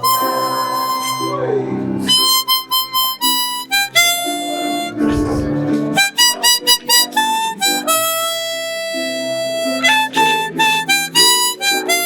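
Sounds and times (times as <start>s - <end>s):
harmonica folk melody: 0.0s - 5.0s, 6.1s - 12.0s.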